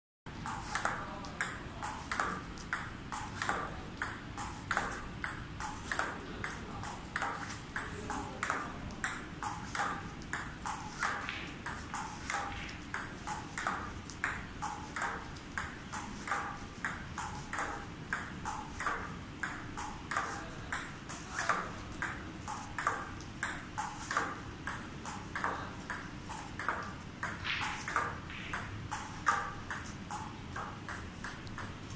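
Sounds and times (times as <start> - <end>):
table tennis ball clicking: 0.4 - 31.9.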